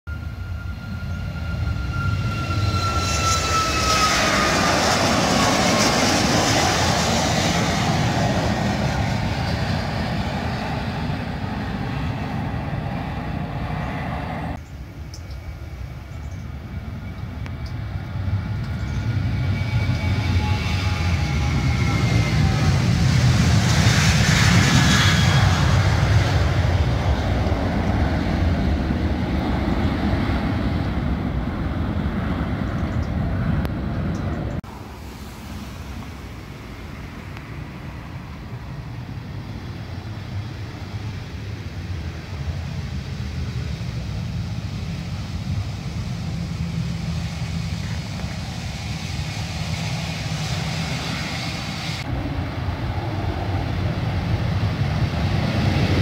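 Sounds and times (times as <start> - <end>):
jet engine rumble: 0.1 - 56.0
jet engines at high power: 0.1 - 56.0.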